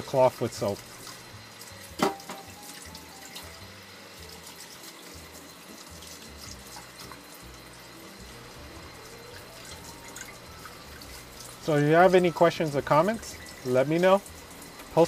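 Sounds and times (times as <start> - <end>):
faucet running into steel sink: 0.0 - 15.0.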